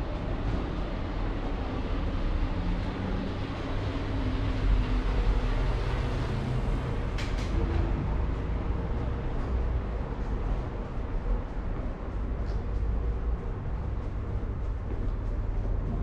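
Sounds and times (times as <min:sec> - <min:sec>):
low mechanical rumble in tunnel: 0:00.0 - 0:16.0.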